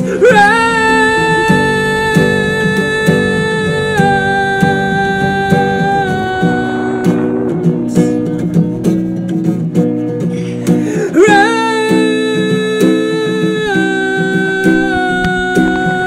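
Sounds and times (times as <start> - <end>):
acoustic guitar strumming: 0.0 - 16.0
person singing long notes: 0.0 - 16.0.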